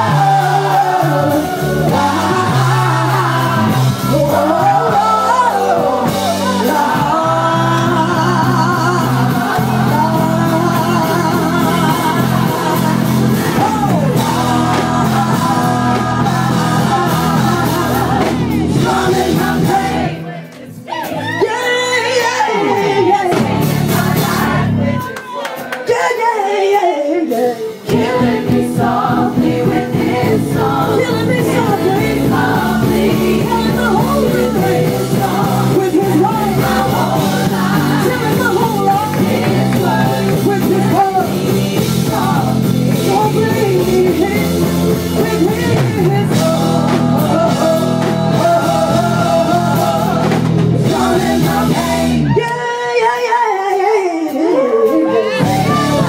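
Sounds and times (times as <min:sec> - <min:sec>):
woman singing: 0:00.0 - 0:20.2, 0:21.3 - 0:25.2, 0:25.8 - 0:56.0
live rock band playing: 0:00.0 - 0:25.7, 0:26.7 - 0:52.4, 0:54.3 - 0:56.0.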